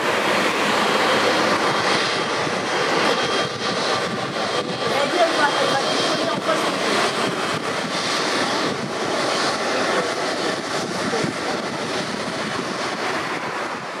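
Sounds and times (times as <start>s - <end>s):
jet engines roaring: 0.0s - 14.0s
wind buffeting microphone: 0.0s - 14.0s.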